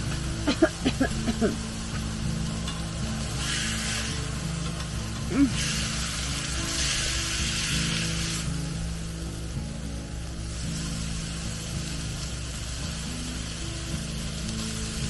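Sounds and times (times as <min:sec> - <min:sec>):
steak sizzling on griddle: 0:00.0 - 0:15.0.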